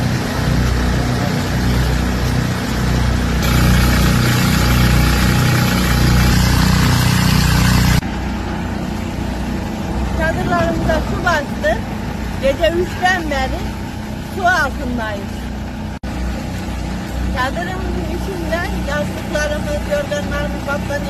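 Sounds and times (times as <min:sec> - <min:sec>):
portable water pump running: 0:00.0 - 0:21.0
truck engine running: 0:00.0 - 0:21.0.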